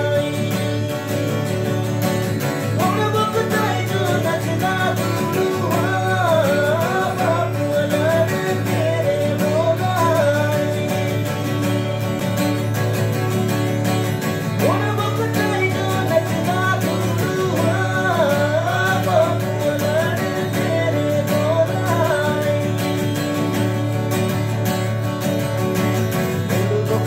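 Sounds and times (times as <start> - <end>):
acoustic guitar strumming: 0.0 - 27.0
man singing: 0.0 - 27.0.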